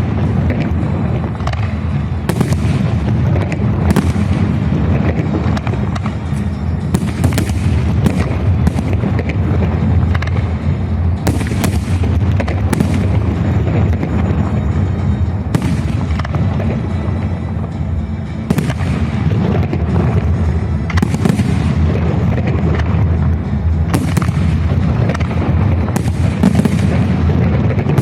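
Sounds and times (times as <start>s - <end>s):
fireworks bursting with sharp bangs: 0.0s - 28.0s
low rumble: 0.0s - 28.0s
music playing: 0.0s - 28.0s.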